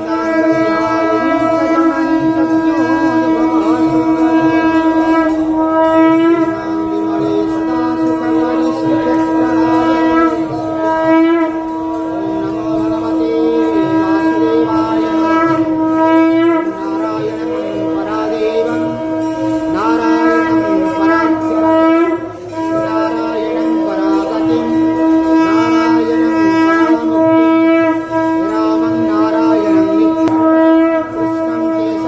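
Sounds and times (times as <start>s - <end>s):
held drone note: 0.0s - 32.0s
wind instrument melody: 0.0s - 32.0s.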